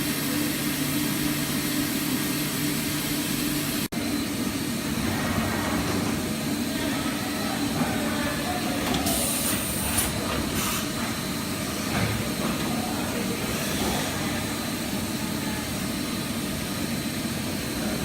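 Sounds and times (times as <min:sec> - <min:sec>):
machine humming with hiss: 0:00.0 - 0:18.0.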